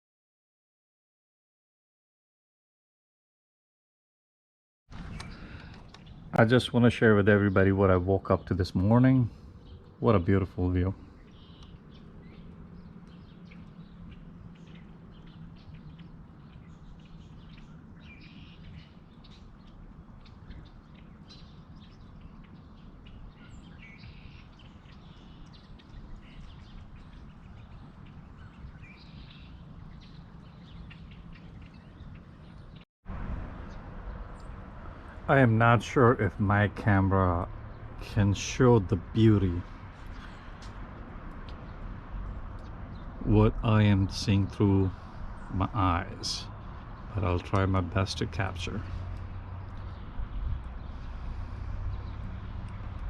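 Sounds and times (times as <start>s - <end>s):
small birds chirping: 4.9s - 32.8s, 33.6s - 53.0s.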